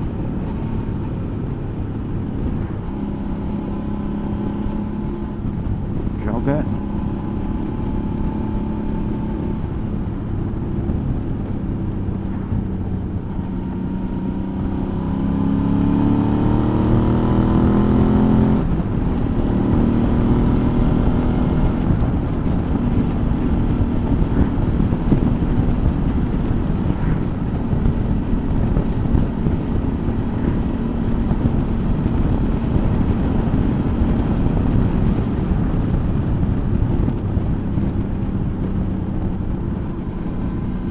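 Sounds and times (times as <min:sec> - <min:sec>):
motorcycle engine accelerating: 0:00.0 - 0:40.9
wind on microphone: 0:00.0 - 0:40.9.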